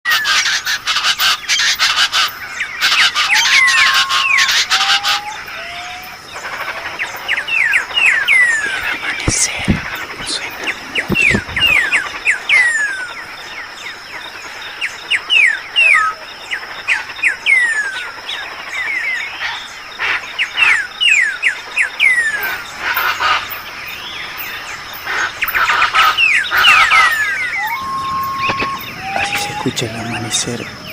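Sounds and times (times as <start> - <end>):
birds whistling: 0.1 - 14.0, 14.8 - 16.2, 20.5 - 30.9.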